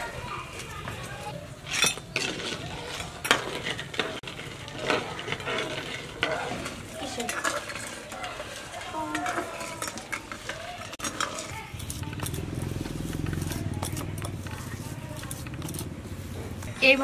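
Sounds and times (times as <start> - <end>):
metal spoon scraping metal pan: 1.6 - 16.6.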